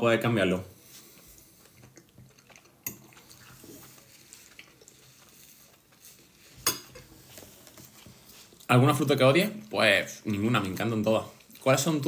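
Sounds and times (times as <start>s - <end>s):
soft chewing: 0.7s - 12.0s.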